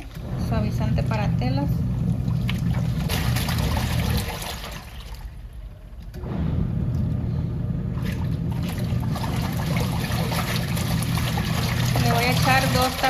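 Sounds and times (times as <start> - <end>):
washing machine motor hum: 0.0 - 13.0
water churning: 0.0 - 13.0.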